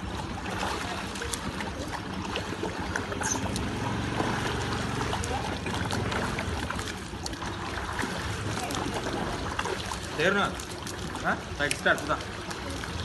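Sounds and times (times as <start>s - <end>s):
pool water sloshing: 0.0s - 13.0s
small splashes and drips: 0.0s - 13.0s.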